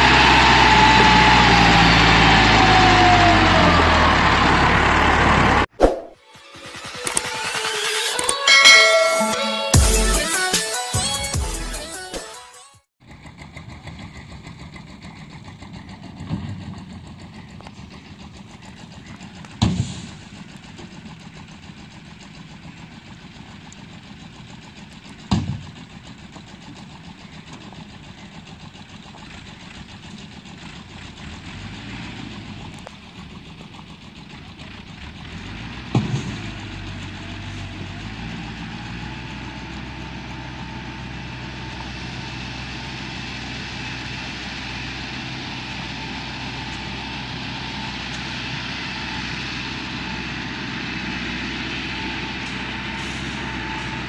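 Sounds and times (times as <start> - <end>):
tractor diesel engine running: 0.0 - 5.7, 13.0 - 54.0.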